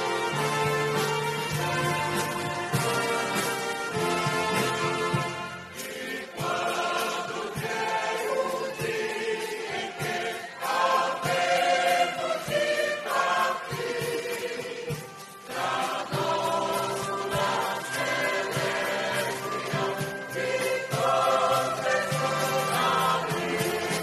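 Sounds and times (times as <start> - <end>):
choir singing gospel: 0.0 - 24.0.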